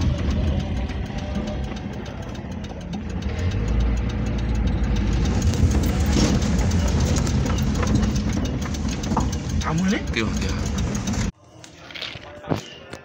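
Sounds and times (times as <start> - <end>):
car engine rumble from inside: 0.0 - 11.3.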